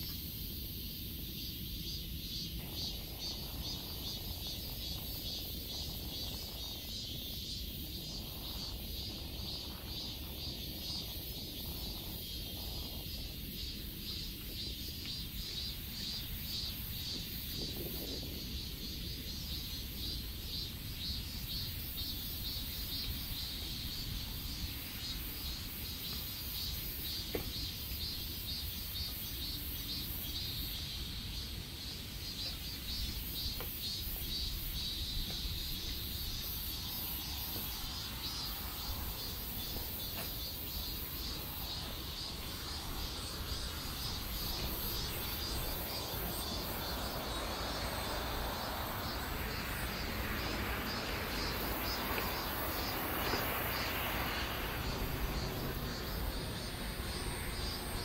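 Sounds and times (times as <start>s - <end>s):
insects chirping: 0.0s - 58.0s
low steady background noise: 0.0s - 58.0s.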